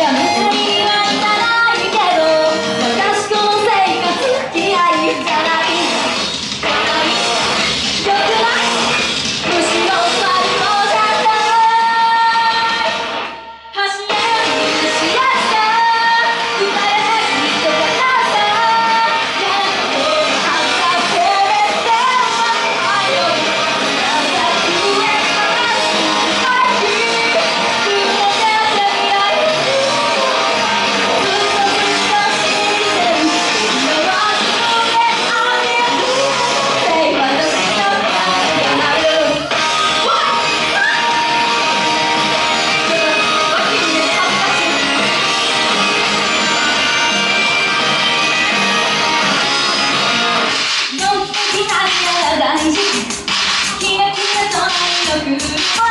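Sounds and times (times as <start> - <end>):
woman singing: 0.0 - 7.4, 8.0 - 13.0, 13.8 - 41.3, 42.5 - 45.0, 50.9 - 55.9
electric guitar: 0.0 - 55.9.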